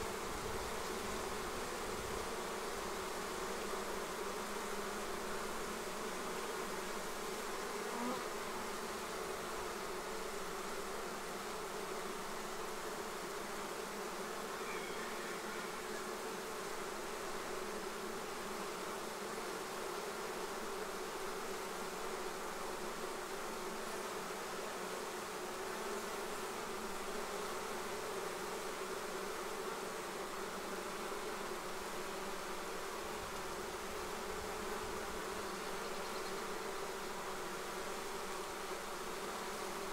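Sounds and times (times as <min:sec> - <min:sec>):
bees humming: 0:00.0 - 0:39.9.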